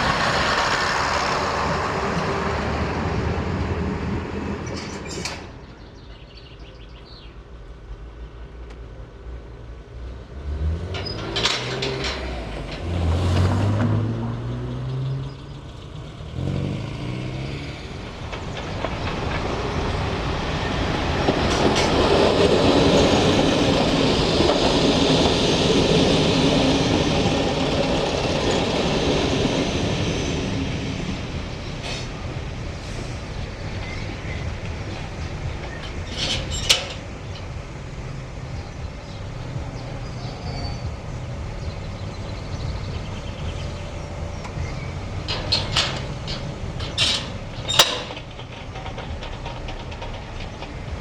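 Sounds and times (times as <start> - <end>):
train rumble and rail clatter: 0.0 - 51.0.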